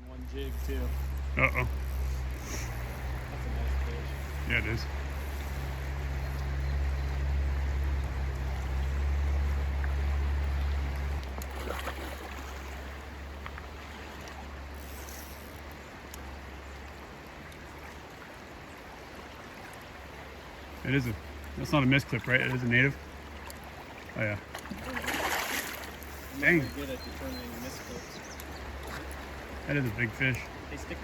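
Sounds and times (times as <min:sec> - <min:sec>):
flowing river water: 0:00.0 - 0:31.0.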